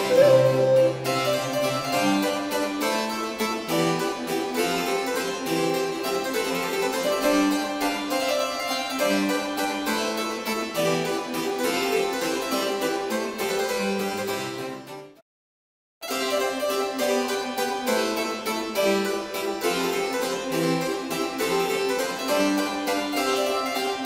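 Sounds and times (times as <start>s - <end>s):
harpsichord music: 0.0s - 15.2s, 16.0s - 24.0s.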